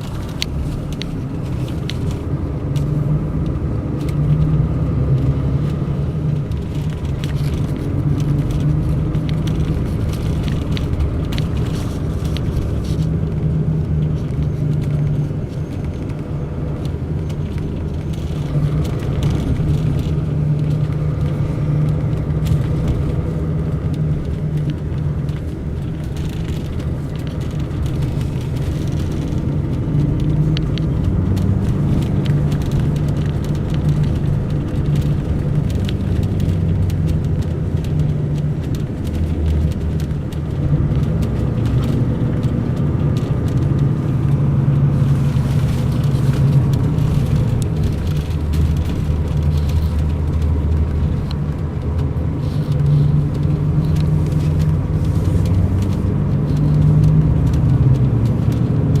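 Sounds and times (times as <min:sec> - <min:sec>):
bus diesel engine running: 0:00.0 - 0:59.0
small clicks and rattles: 0:00.0 - 0:59.0.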